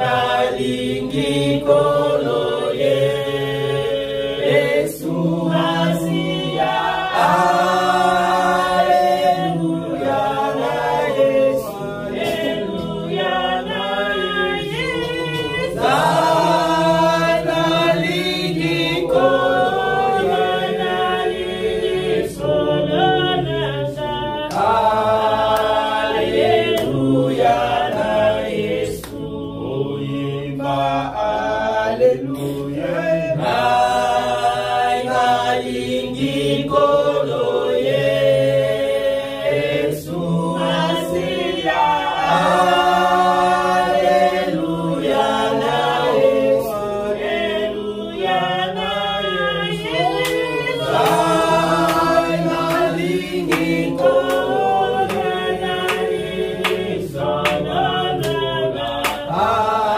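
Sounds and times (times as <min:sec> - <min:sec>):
congregation singing: 0:00.0 - 0:59.9.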